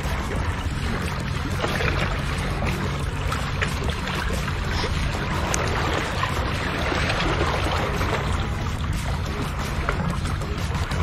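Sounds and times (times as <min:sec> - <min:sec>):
sea water lapping at shore: 0:00.0 - 0:11.0.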